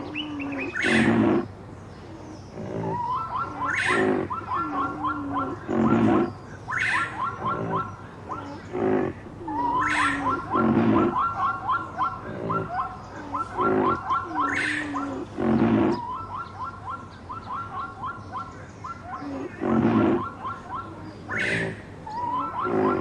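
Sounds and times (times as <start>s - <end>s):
loud rough animal cries: 0.0s - 1.6s, 2.5s - 16.1s, 19.2s - 23.0s.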